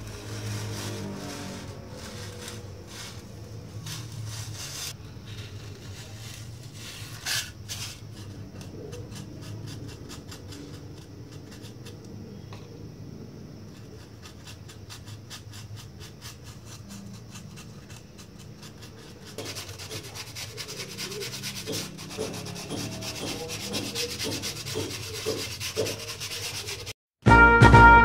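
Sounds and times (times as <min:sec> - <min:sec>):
rubbing strokes: 0:00.0 - 0:12.1, 0:13.7 - 0:27.0.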